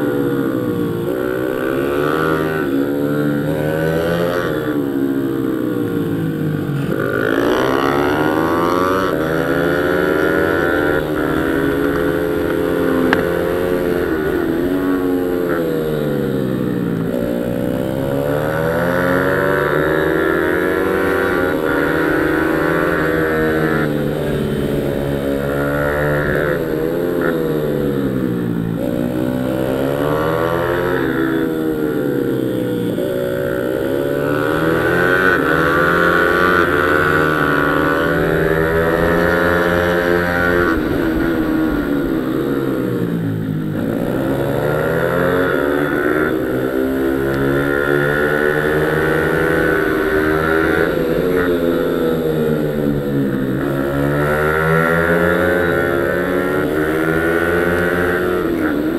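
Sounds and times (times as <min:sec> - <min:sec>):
pit bike engine revving: 0:00.0 - 0:58.9.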